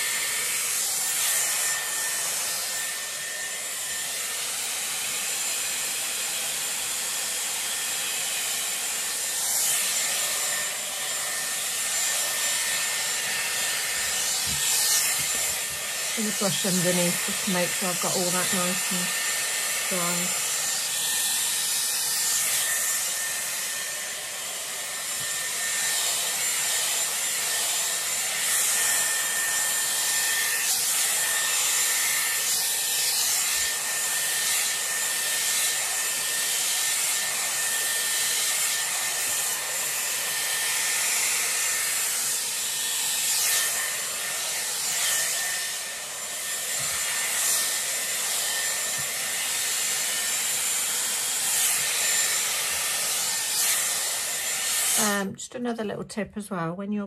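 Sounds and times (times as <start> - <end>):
hair styler blowing air: 0.0 - 55.4.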